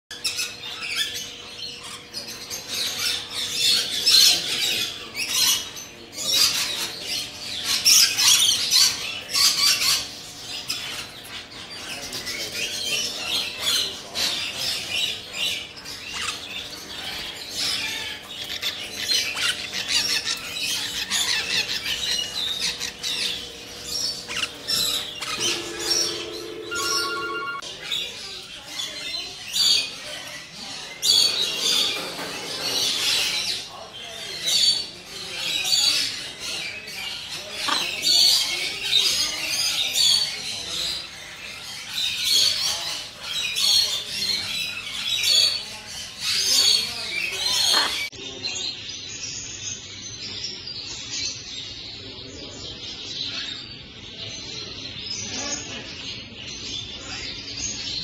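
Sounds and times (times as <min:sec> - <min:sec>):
parrots and birds calling: 0:00.1 - 0:58.0.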